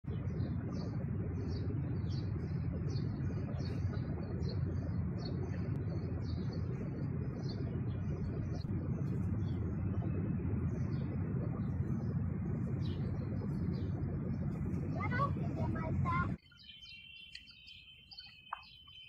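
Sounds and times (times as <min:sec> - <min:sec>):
steady low rumble: 0:00.0 - 0:16.4
bird chirping: 0:00.1 - 0:19.0.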